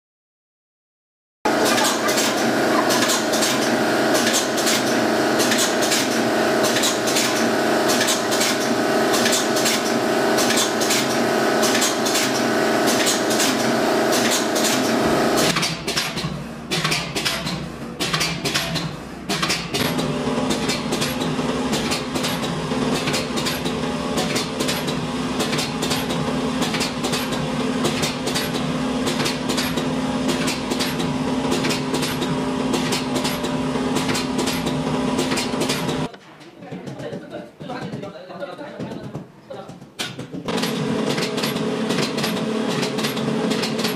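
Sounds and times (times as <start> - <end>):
machine metallic clacking: 1.5 - 36.1, 40.0 - 43.9
steady motor hum: 1.5 - 36.2, 40.5 - 43.9.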